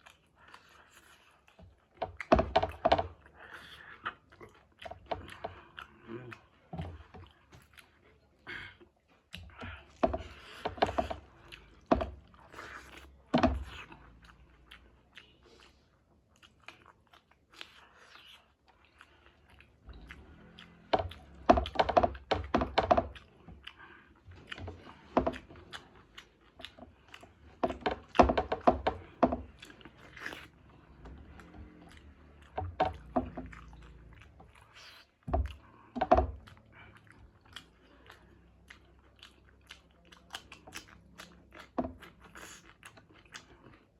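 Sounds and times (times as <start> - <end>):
chewing and biting food: 0.0 - 43.9.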